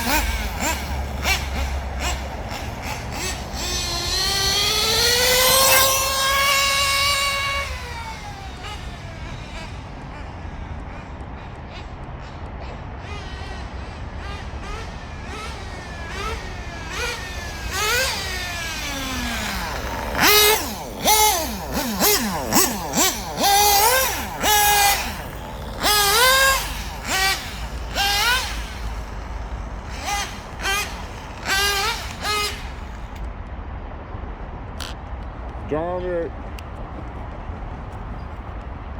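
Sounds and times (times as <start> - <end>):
small engine revving: 0.0 - 33.3, 34.8 - 38.9.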